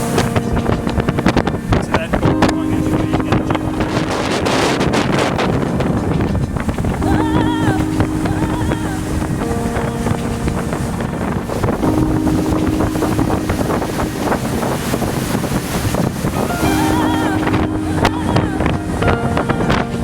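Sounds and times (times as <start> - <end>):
motor yacht running at speed: 0.0 - 20.0
wind buffeting microphone: 0.0 - 20.0.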